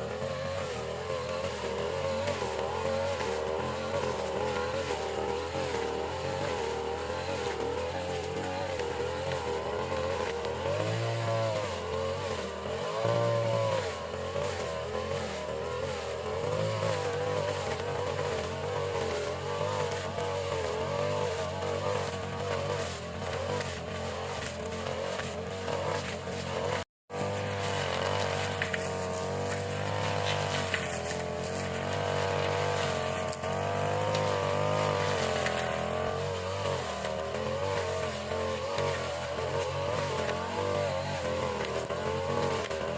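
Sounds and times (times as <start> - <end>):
lawn mower engine revving: 0.0 - 42.9.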